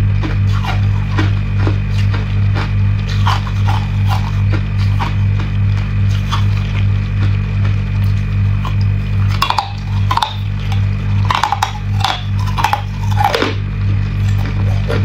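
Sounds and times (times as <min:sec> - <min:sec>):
steady low hum: 0:00.0 - 0:15.0
ice cubes crunched between teeth: 0:00.2 - 0:13.6.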